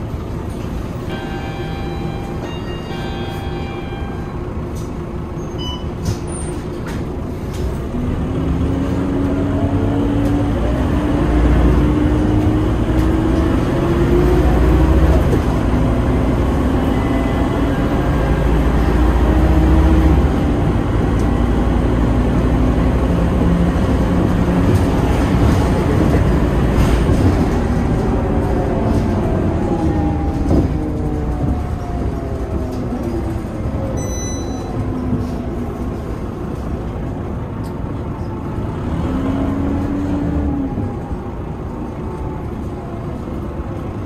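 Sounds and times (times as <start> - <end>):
bus diesel engine accelerating: 0.0 - 44.0.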